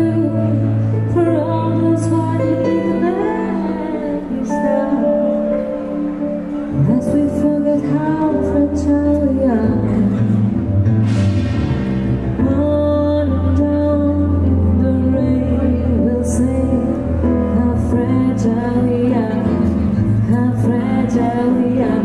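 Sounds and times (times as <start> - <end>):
woman singing into microphone: 0.0 - 10.7, 12.4 - 22.0
piano playing: 0.0 - 22.0.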